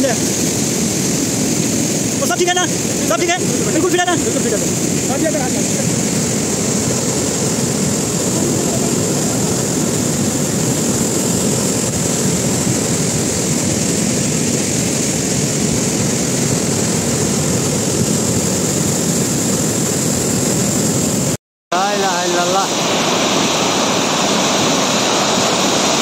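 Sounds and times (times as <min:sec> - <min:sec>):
flood water rushing: 0:00.0 - 0:26.0.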